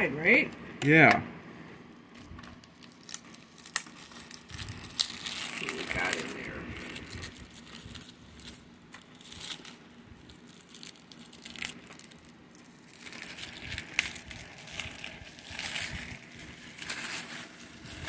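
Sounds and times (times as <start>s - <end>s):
plastic shrink wrap crinkling: 1.9s - 18.0s.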